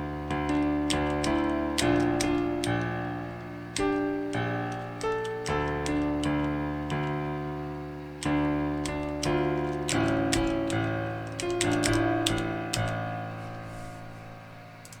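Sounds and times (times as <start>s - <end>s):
piano notes and chords: 0.0s - 15.0s
computer keys clacking: 0.2s - 15.0s.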